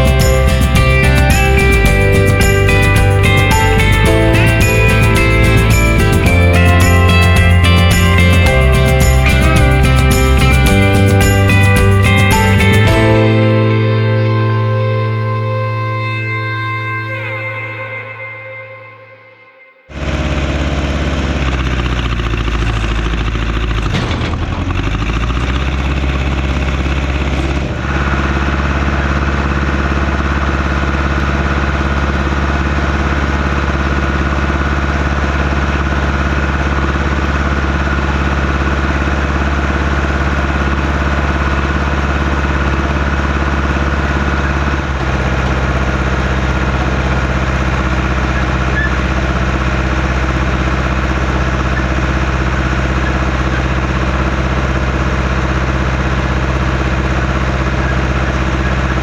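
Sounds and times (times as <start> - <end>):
loader engine running: 0.0 - 18.4, 19.9 - 59.0.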